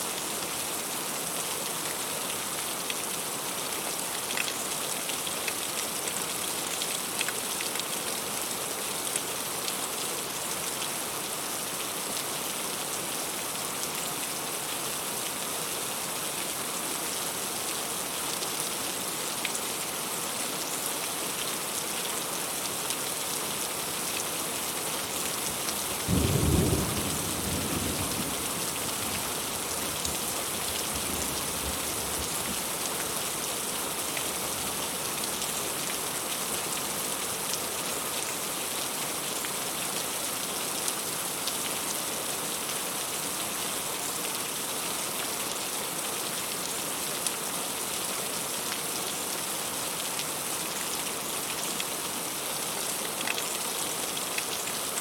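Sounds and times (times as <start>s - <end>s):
heavy rain falling on a tree: 0.0s - 55.0s.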